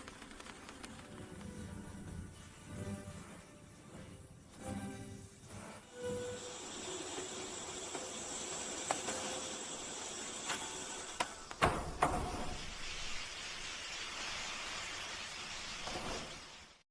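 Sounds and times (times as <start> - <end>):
food sizzling in a pan: 1.5 - 16.8.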